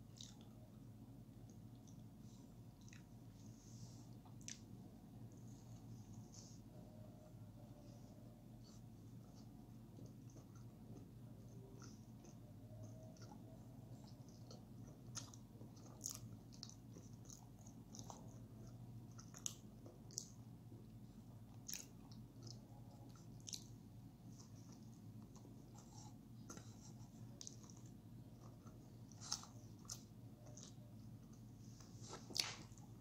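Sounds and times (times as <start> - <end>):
person chewing: 0.0 - 0.7, 1.5 - 4.8, 8.6 - 33.0
steady low hum: 0.0 - 33.0.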